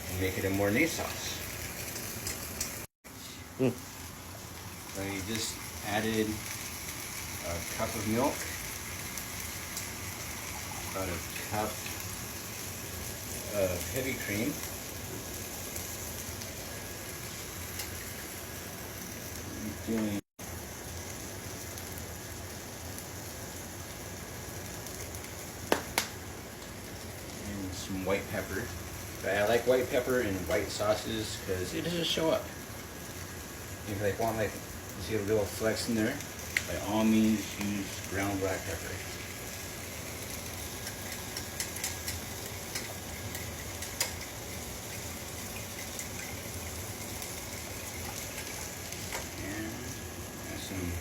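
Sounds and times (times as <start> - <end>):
chicken frying in oil: 0.0 - 51.0
food sizzling in a pan: 0.0 - 51.0.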